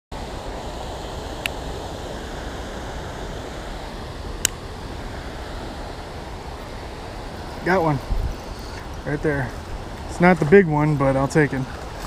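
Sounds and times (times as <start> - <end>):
river water pouring over weir: 0.2 - 12.0.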